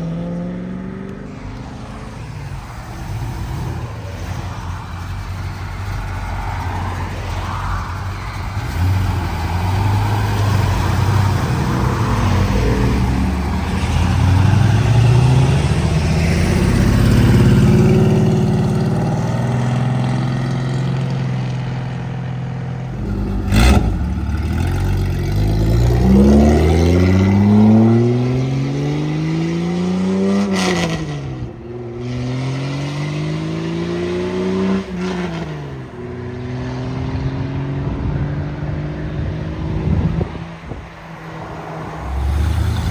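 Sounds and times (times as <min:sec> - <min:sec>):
car engine shifting gears: 0:00.0 - 0:42.9
car engines accelerating hard: 0:00.0 - 0:42.9.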